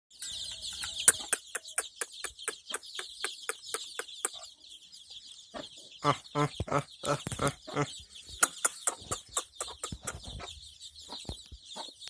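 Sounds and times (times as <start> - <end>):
chicks peeping: 0.1 - 12.0
hen clucking: 0.5 - 12.0.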